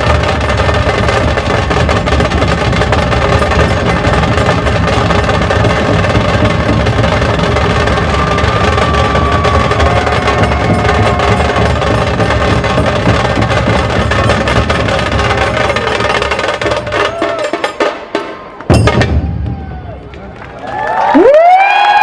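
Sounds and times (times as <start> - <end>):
dhol and tasha drums beating: 0.0 - 20.0.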